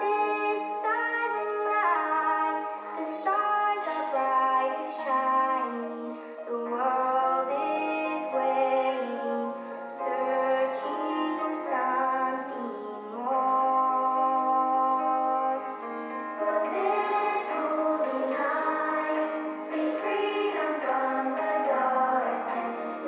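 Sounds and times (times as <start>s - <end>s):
slow music with instruments: 0.0s - 23.0s
woman singing: 0.0s - 23.0s.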